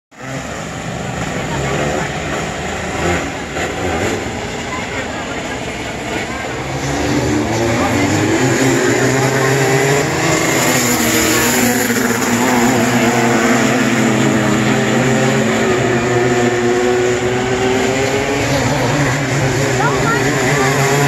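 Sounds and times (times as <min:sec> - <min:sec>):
racing car engines revving: 0:00.1 - 0:21.0.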